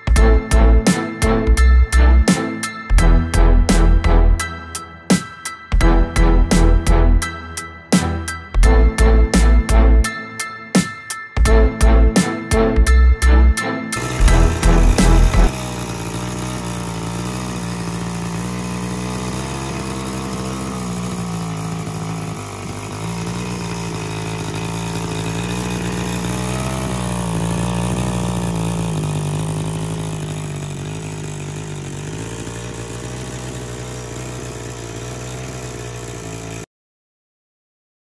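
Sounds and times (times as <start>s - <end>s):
hedge trimmer engine running: 0.0s - 4.4s, 5.2s - 7.2s, 11.5s - 36.7s.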